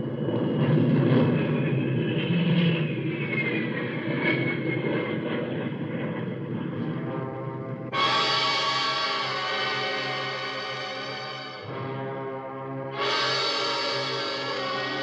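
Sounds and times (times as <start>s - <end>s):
aircraft engine drone with whine: 0.0s - 15.0s.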